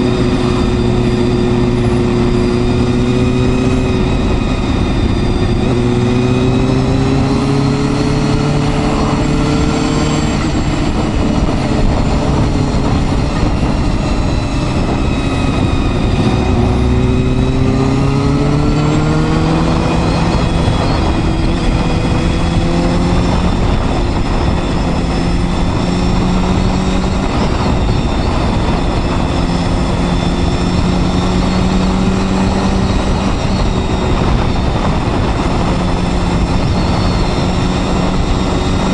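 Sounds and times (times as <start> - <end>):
constant rushing noise: 0.0 - 38.9
motorcycle engine running: 0.0 - 38.9.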